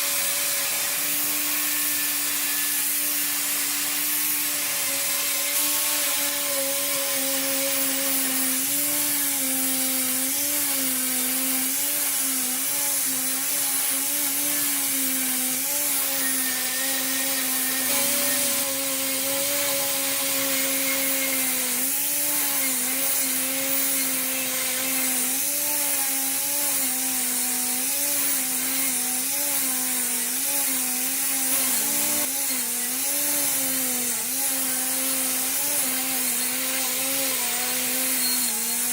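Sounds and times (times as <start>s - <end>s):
power tool motor whining: 0.0s - 38.9s.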